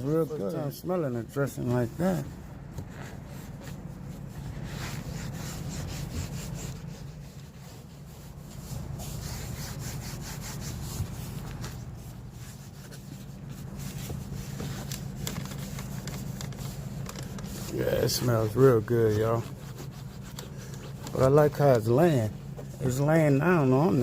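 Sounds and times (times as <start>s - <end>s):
pad rubbing plastic trim: 2.0s - 21.8s.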